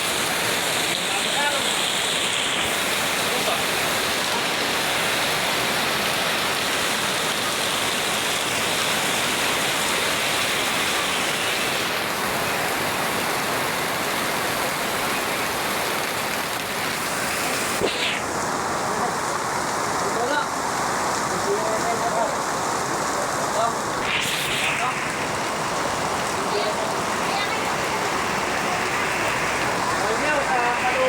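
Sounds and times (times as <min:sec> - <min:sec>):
heavy rain hissing: 0:00.0 - 0:31.0.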